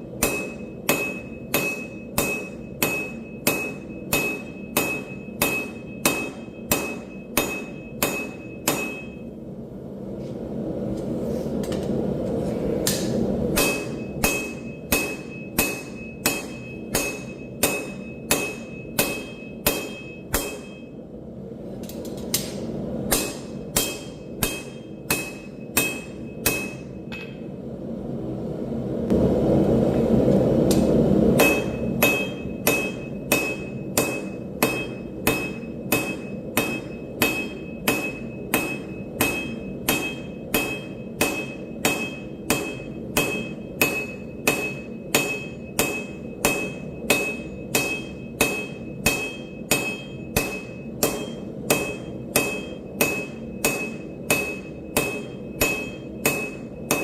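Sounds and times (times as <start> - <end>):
hammer striking anvil: 0.1 - 9.3, 12.9 - 21.0, 23.1 - 27.5, 31.4 - 57.0.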